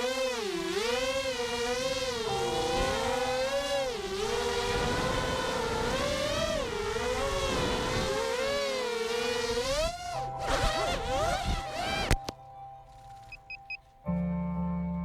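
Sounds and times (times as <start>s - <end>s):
quadcopter motors whining: 0.0s - 13.8s.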